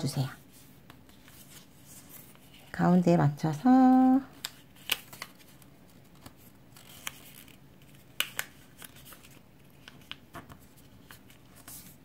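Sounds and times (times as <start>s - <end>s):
paper being folded and creased: 0.5s - 2.8s, 4.3s - 12.0s.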